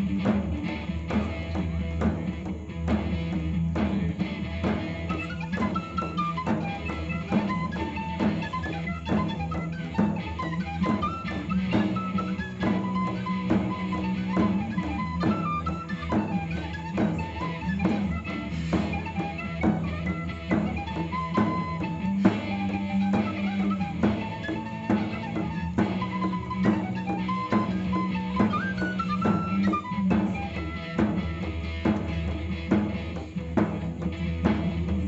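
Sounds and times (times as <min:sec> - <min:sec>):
rock band playing: 0:00.0 - 0:35.0
steady drum beat: 0:00.0 - 0:35.0.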